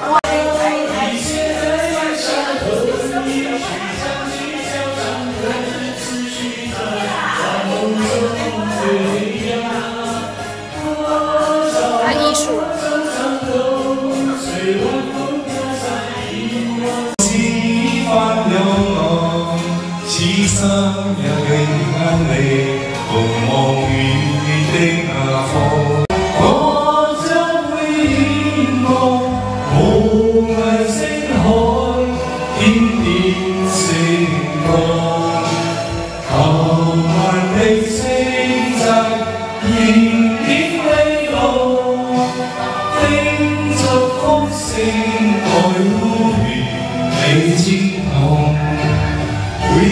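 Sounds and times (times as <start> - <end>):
backing music from tv: 0.0 - 49.9
group singing: 0.0 - 49.9.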